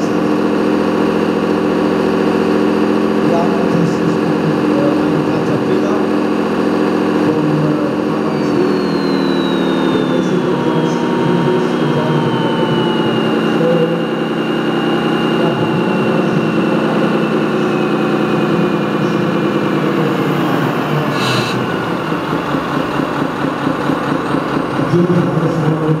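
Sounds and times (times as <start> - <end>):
faint whine: 0.0 - 26.0.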